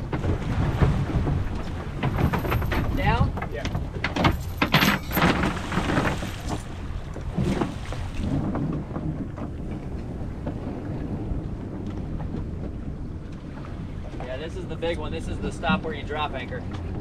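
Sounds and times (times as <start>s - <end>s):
waves washing against hull: 0.0s - 17.0s
wind buffeting microphone: 0.0s - 17.0s.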